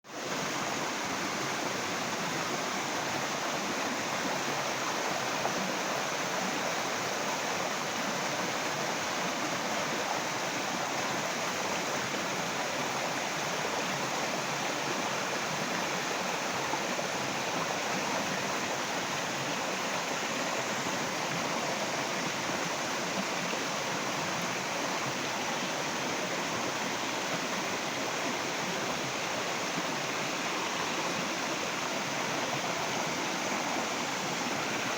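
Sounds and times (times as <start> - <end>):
running water rushing: 0.1 - 34.9.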